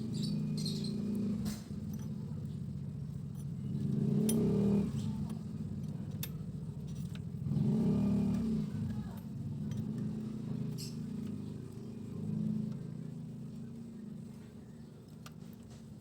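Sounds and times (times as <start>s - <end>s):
scooter engine idling and revving: 0.0s - 16.0s.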